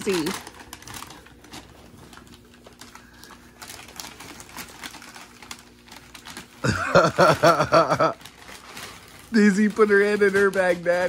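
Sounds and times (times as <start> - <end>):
paper bag rustling: 0.0 - 11.0.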